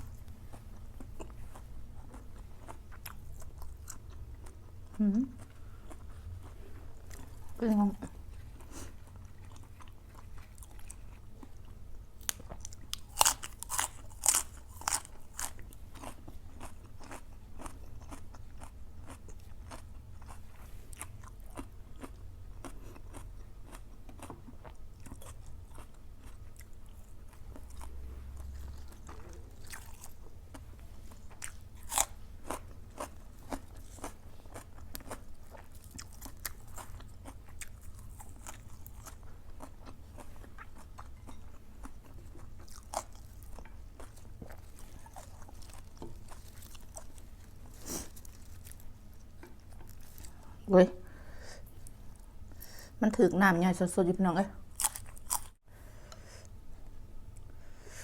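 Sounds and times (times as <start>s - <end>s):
person chewing crunchy food: 0.0s - 50.6s, 54.7s - 56.6s.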